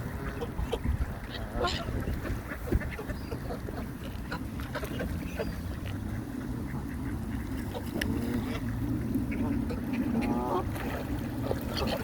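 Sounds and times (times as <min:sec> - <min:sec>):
ducks quacking: 0:00.0 - 0:12.0
steady low rumble: 0:00.0 - 0:12.0.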